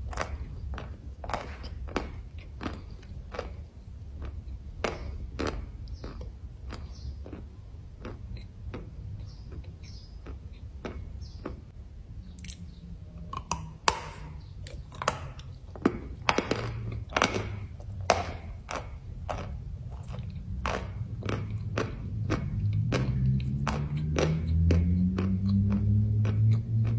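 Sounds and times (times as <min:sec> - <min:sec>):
chalk being chewed: 0:00.0 - 0:11.7, 0:12.4 - 0:26.9.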